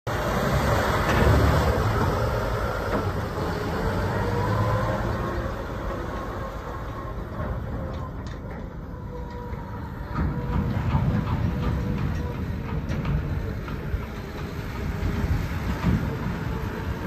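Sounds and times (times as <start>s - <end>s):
diesel truck driving past: 0.1s - 17.0s.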